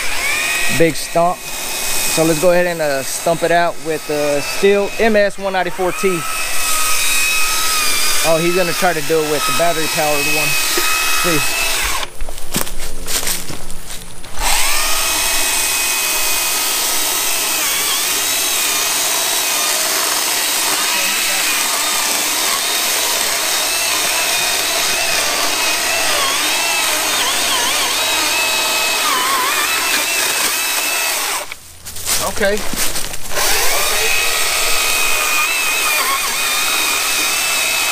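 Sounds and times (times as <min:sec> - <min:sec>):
chainsaw cutting wood: 0:00.0 - 0:13.6, 0:14.2 - 0:37.9.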